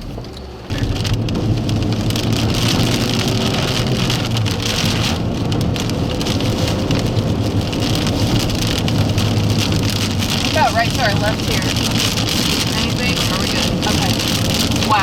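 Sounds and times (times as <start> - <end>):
car engine and tyre noise: 0.0 - 15.0
rain on a moving car: 0.0 - 15.0.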